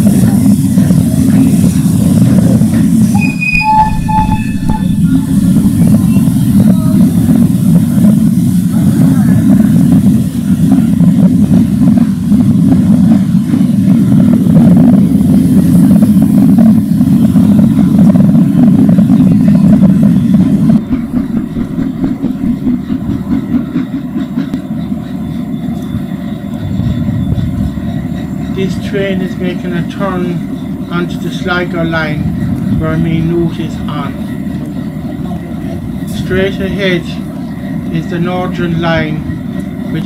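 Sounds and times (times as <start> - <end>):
steam train rumbling: 0.0 - 40.0.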